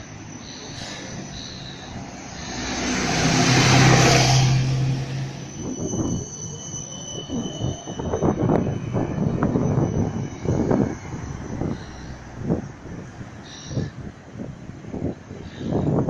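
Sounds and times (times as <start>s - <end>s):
tram passing: 0.0s - 16.0s.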